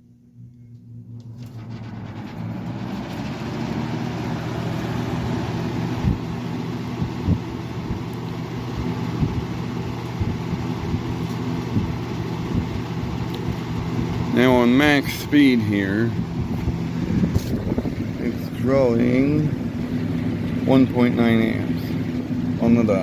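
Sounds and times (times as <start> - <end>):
box fan running: 0.0 - 23.0.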